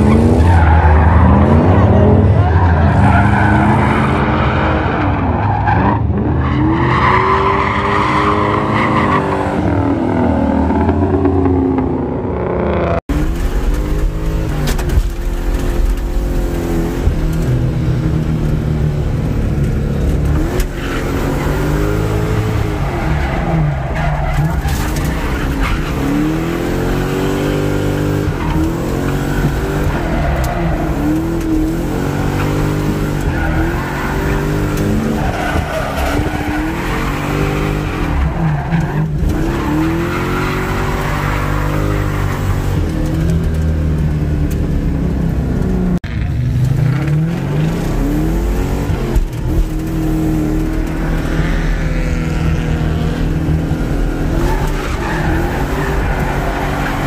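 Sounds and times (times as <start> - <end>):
car engine revving: 0.0 - 57.0
tyres skidding: 0.0 - 57.0.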